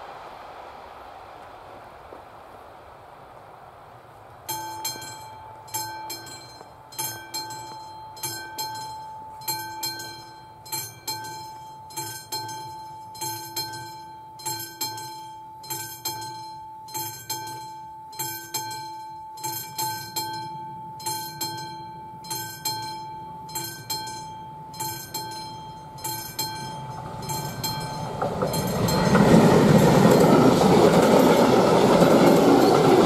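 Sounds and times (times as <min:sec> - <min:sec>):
level-crossing bell ringing: 0:04.5 - 0:33.0.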